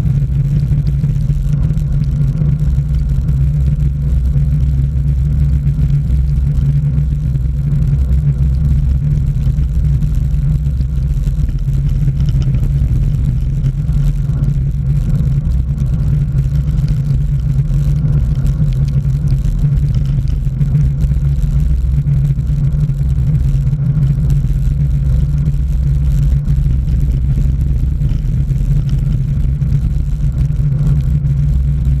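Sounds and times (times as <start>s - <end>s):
wind and tyre rumble: 0.0s - 32.0s.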